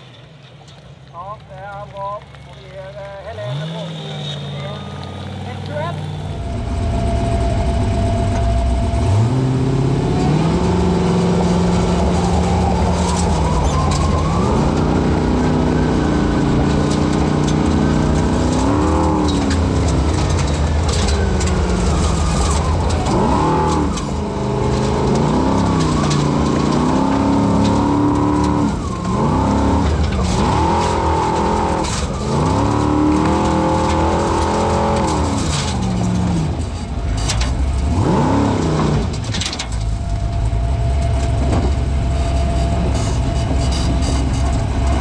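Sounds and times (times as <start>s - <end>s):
car engine revving: 1.6s - 45.0s.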